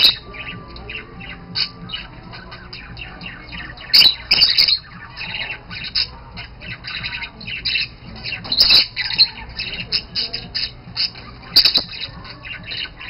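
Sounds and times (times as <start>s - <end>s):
budgerigars chattering: 0.0s - 13.0s
harsh bird squawks: 0.0s - 13.0s.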